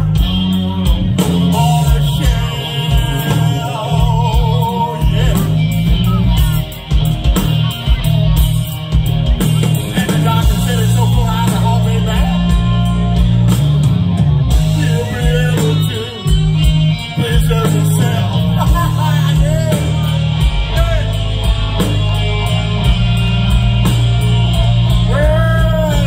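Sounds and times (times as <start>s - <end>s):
bass line: 0.0s - 26.0s
country-rock band playing: 0.0s - 26.0s
electric guitar lead lines: 0.0s - 26.0s.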